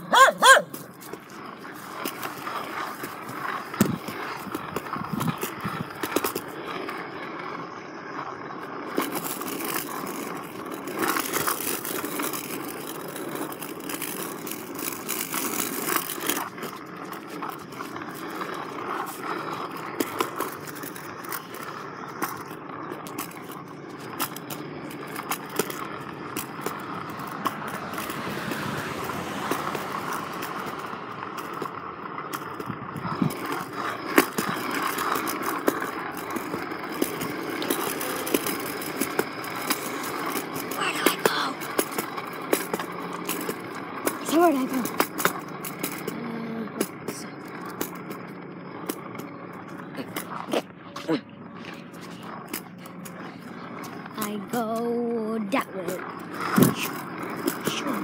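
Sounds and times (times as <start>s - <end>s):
caster board rolling on concrete: 0.0s - 58.0s.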